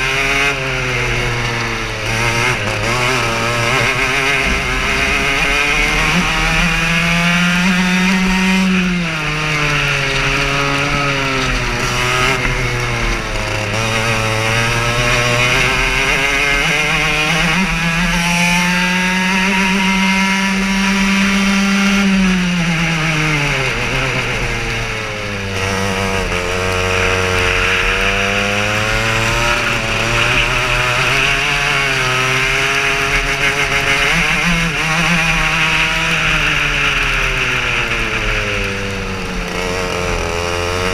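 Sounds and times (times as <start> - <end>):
kart engine running hard: 0.0 - 40.9.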